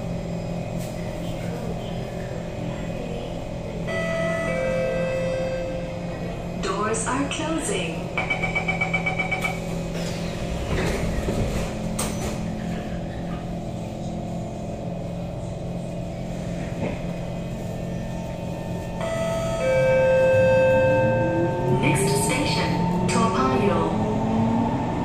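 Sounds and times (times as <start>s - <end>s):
train equipment hum: 0.0s - 25.0s.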